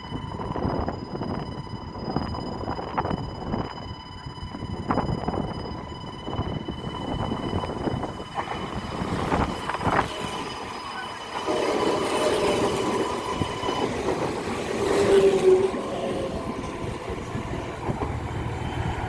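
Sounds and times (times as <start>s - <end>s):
train rumbling: 0.0s - 19.0s
wheels squealing on rails: 0.0s - 19.0s.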